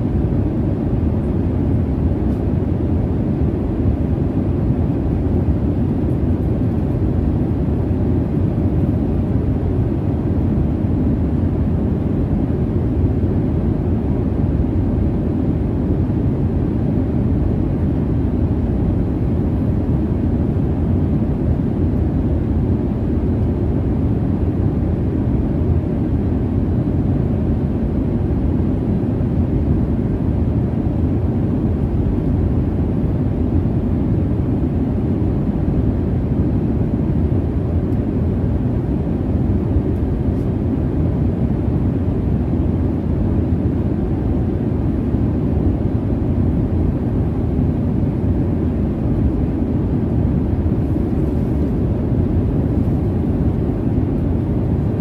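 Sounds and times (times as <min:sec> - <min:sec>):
jet cabin engine roar: 0:00.0 - 0:55.0.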